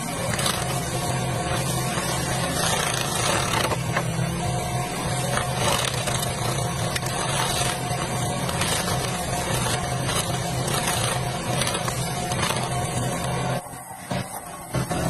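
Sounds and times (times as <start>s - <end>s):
loader engine running: 0.0s - 15.0s.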